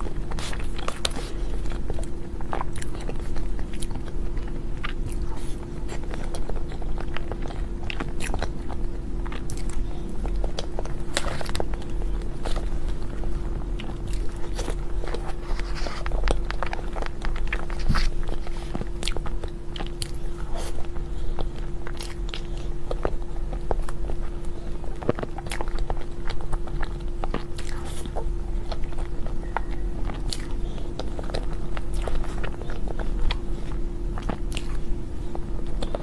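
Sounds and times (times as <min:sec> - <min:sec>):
person chewing: 0:00.0 - 0:36.0
steady low hum: 0:00.0 - 0:36.0.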